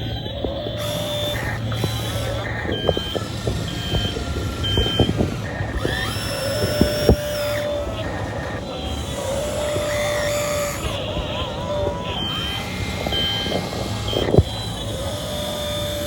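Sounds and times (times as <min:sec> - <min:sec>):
short high beeps: 0:00.0 - 0:15.7
knocks and clicks: 0:00.0 - 0:16.0
model excavator drive hum: 0:00.0 - 0:16.0
rising whine: 0:00.0 - 0:16.0.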